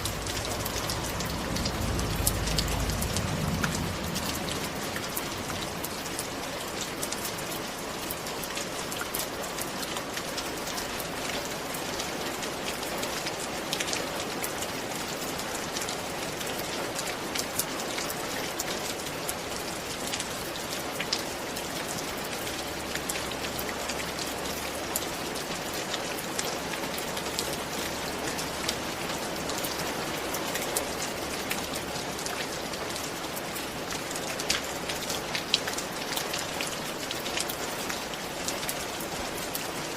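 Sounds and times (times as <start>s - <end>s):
rain drops tapping on hard surface: 0.0s - 39.9s.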